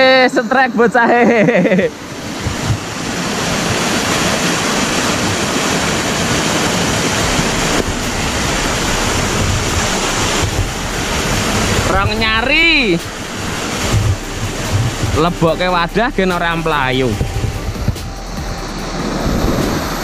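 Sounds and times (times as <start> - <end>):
waterfall rushing: 1.8 - 20.0.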